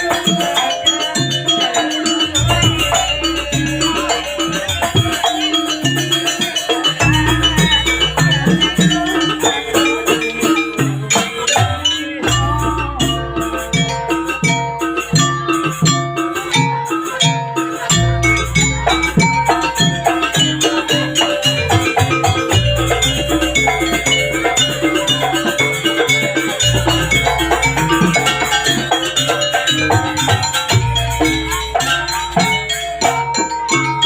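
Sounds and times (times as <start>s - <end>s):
drum and percussion beat: 0.0s - 34.0s
mallet instrument notes: 0.0s - 34.0s.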